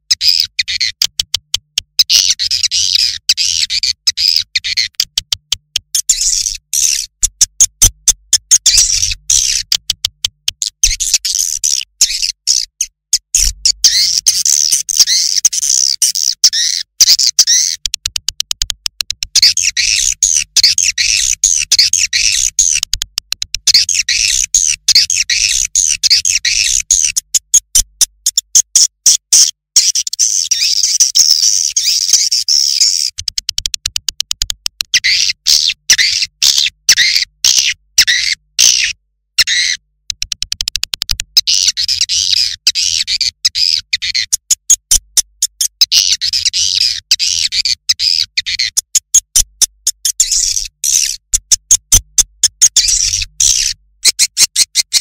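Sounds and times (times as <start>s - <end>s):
sharp clicks: 0.0s - 28.9s, 31.6s - 35.6s, 39.5s - 54.8s.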